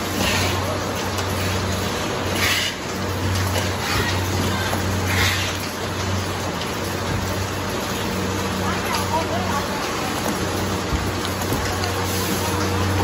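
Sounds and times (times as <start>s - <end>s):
conveyor motor hum: 0.0s - 13.0s.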